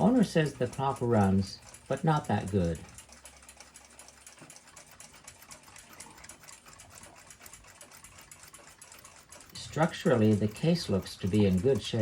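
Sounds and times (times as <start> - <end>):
clock ticking: 0.0 - 12.0.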